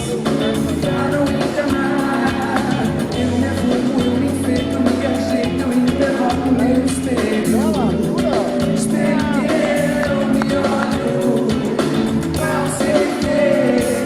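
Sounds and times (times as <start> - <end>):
drum beat: 0.0 - 14.0
live pop band: 0.0 - 14.0
person singing: 0.0 - 14.0.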